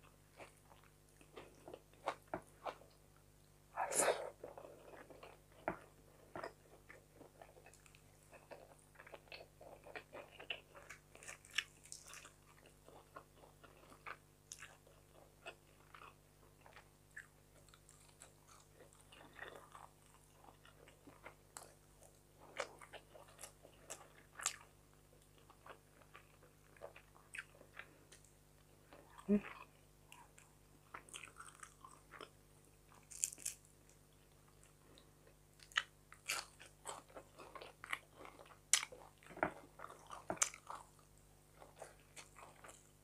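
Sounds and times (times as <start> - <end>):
close chewing: 4.4 - 32.3, 32.9 - 43.0.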